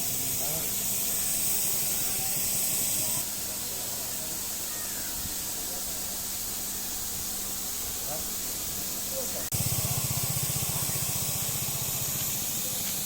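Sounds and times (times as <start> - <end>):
faint distant voices: 0.0 - 13.0
high-pitched hiss: 0.0 - 13.0.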